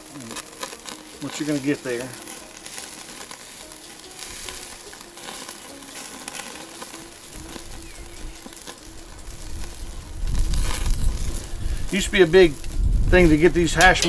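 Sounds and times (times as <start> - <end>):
fat crackling on coals: 0.0 - 14.0
steak sizzling on grill: 0.0 - 14.0.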